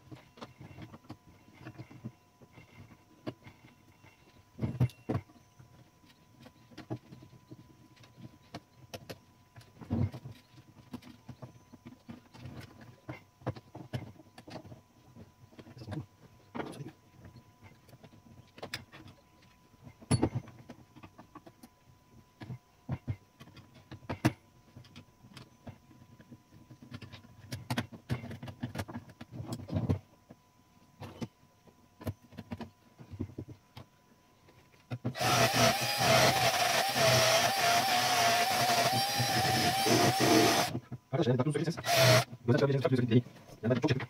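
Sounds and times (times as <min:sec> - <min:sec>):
loud whirring with wavering whine: 0:00.0 - 0:43.2.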